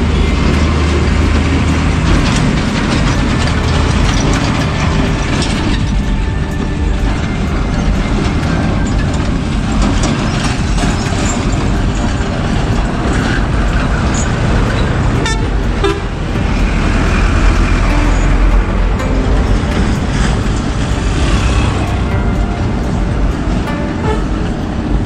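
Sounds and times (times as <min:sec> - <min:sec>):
vehicle horns tooting: 0:00.0 - 0:24.8
vehicles driving past: 0:00.0 - 0:25.0.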